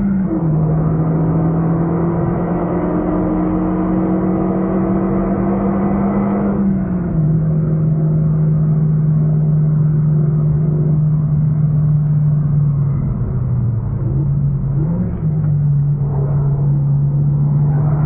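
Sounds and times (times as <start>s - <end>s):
car engine pulling hard: 0.0s - 18.0s.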